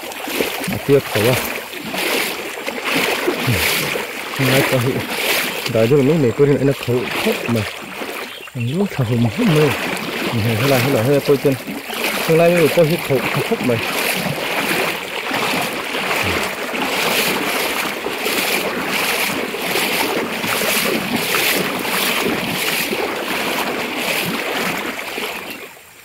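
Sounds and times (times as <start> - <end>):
river rushing: 0.0 - 25.9.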